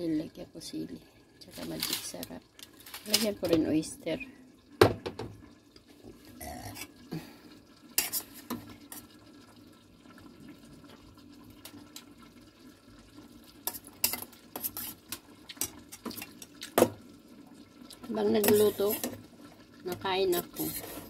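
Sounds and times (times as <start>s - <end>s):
faint steady simmer: 0.0s - 21.0s.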